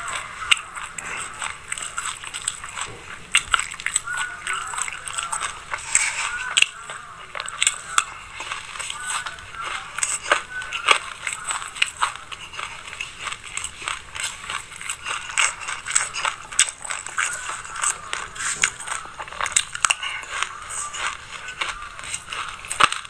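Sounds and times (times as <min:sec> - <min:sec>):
person chewing crunchy seeds: 0:00.0 - 0:23.0.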